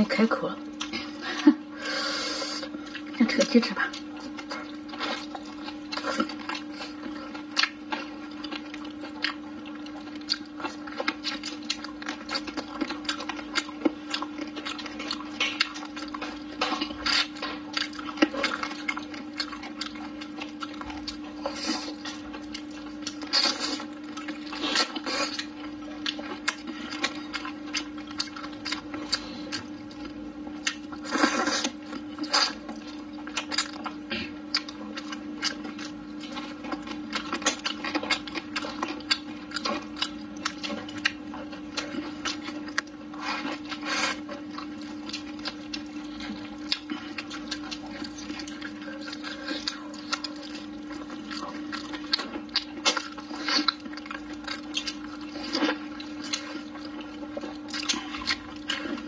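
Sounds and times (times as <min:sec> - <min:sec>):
steady hum: 0:00.0 - 0:59.0
chewing and lip-smacking: 0:00.1 - 0:59.0.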